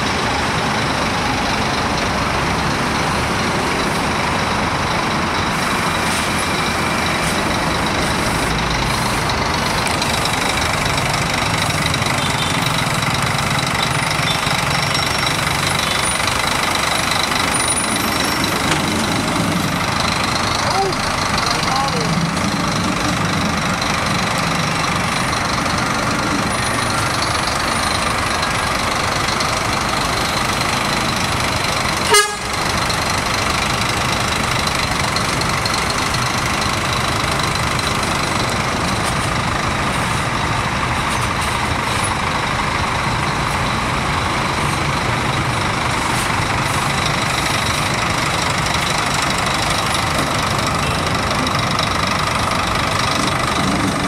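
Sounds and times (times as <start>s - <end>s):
diesel bus engine running: 0.0s - 54.0s.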